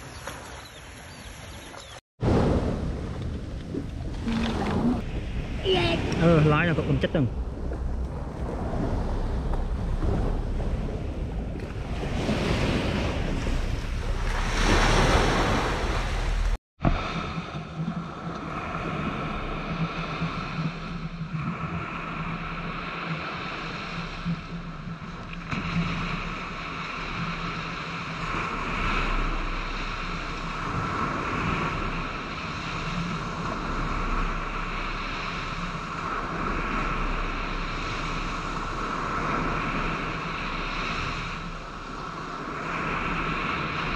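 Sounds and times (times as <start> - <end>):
wind rushing over microphone: 2.2 - 43.9.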